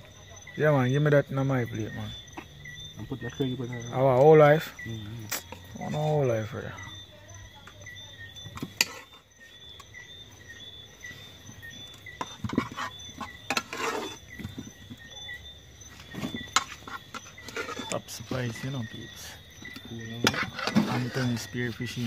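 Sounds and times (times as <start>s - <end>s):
night insects chirping: 0.0s - 22.0s.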